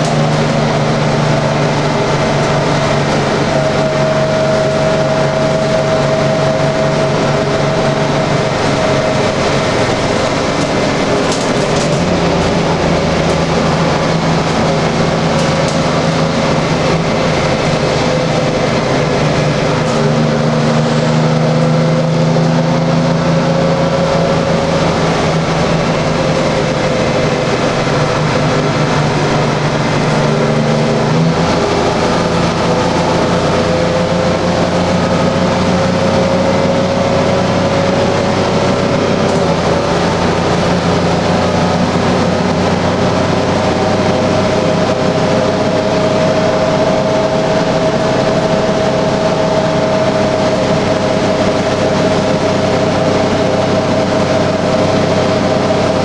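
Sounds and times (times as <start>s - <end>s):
bus diesel engine drone: 0.0s - 56.0s
high engine whine: 0.0s - 56.0s.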